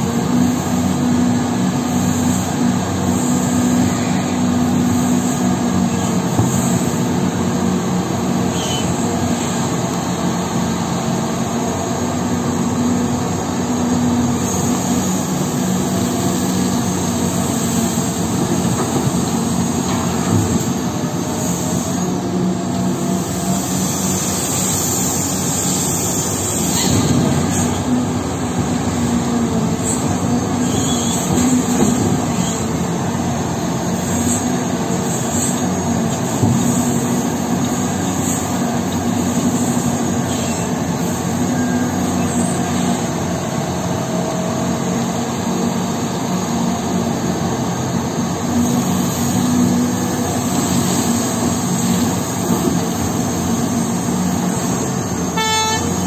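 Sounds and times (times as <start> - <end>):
excavator diesel drone: 0.0 - 56.0.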